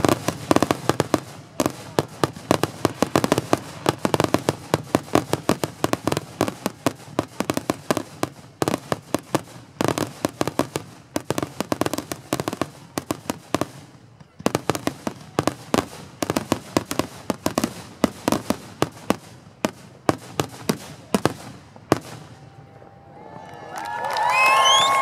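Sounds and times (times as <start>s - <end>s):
fireworks bangs: 0.0s - 23.1s.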